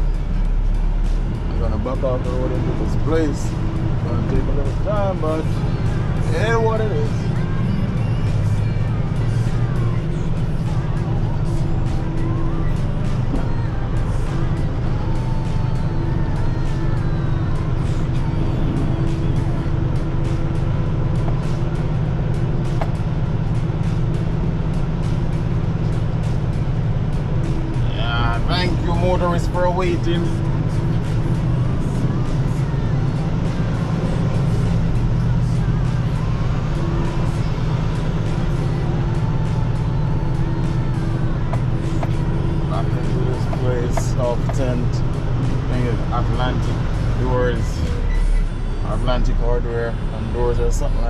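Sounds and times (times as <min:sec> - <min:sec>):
truck diesel engine running: 0:00.0 - 0:51.0.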